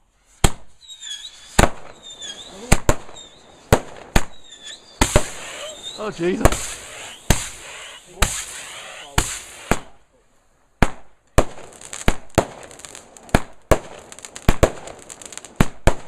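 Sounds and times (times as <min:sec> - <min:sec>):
fireworks bangs: 0:00.0 - 0:10.0, 0:10.8 - 0:16.0
crackling hiss: 0:00.0 - 0:16.0.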